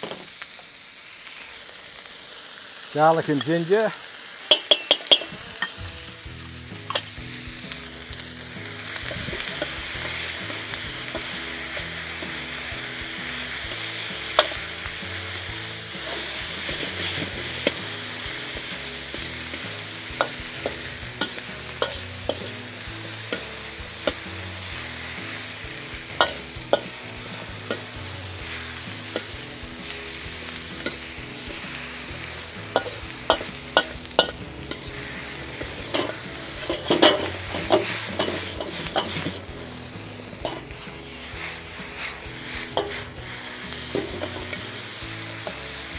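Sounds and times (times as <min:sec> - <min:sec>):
vegetables sizzling in wok: 0:00.0 - 0:45.9
metal spatula scraping wok: 0:04.4 - 0:45.9.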